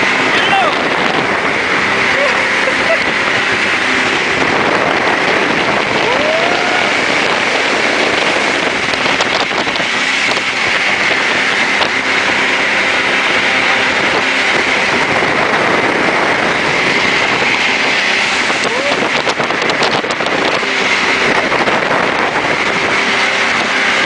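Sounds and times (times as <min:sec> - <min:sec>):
jet boat running at speed: 0:00.0 - 0:24.0.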